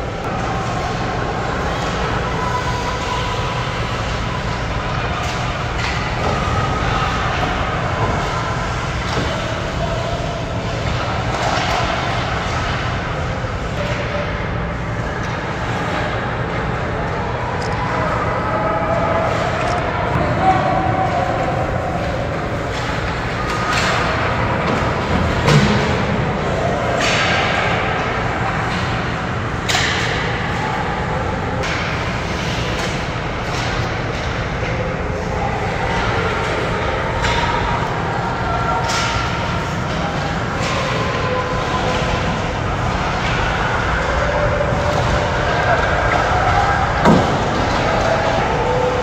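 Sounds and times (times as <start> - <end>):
distant voices of players: 0.0 - 49.0
low rink rumble: 0.0 - 49.0.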